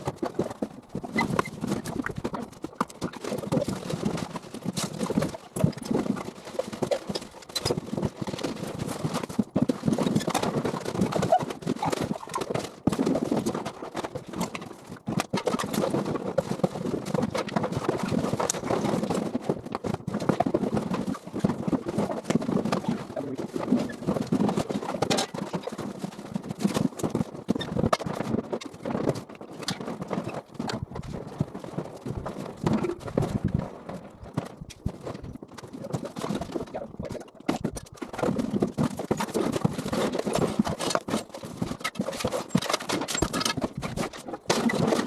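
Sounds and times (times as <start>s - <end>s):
household items knocking and clattering: 0.0s - 45.0s.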